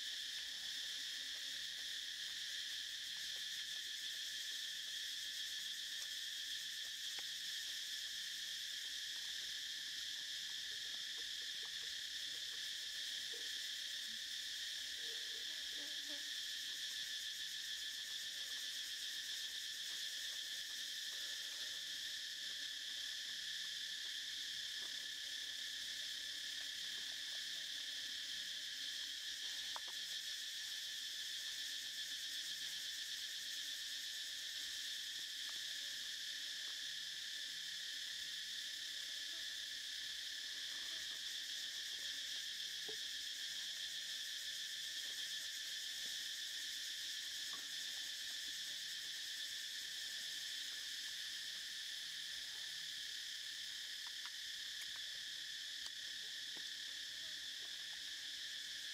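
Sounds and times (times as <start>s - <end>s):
insect chorus buzzing: 0.0s - 58.9s.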